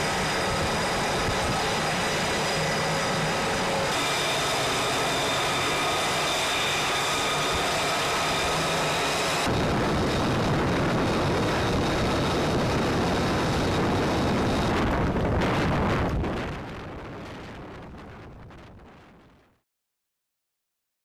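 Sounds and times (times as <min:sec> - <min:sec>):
wind rushing on microphone: 0:00.0 - 0:04.0, 0:05.2 - 0:19.6.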